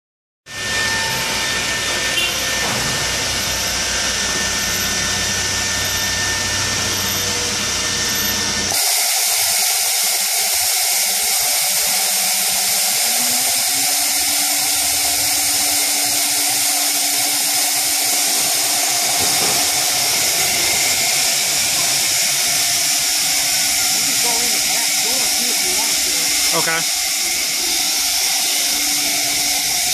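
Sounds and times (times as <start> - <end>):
cnc router whining: 0.5 - 29.9.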